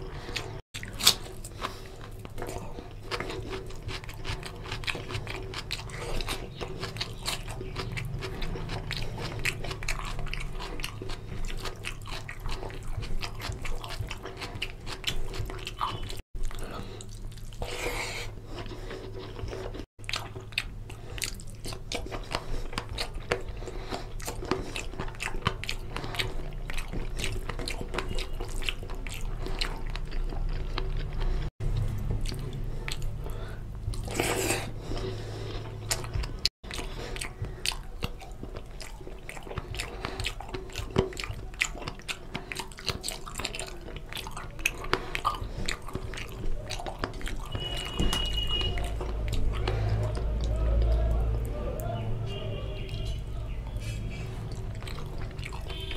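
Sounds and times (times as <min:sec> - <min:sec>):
chewing and wet mouth sounds: 0:00.0 - 0:55.9.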